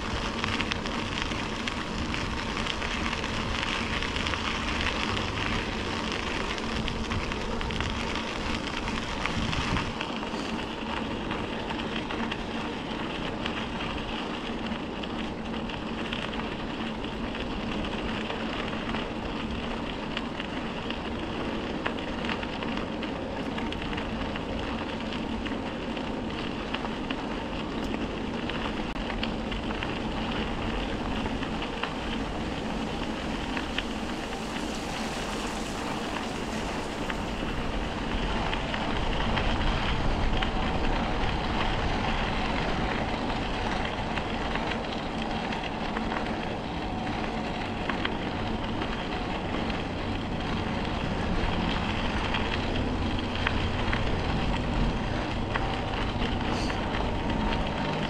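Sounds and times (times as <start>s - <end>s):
bicycle tyres rolling on trail: 0.0s - 58.0s
wind rush on microphone: 0.0s - 58.0s.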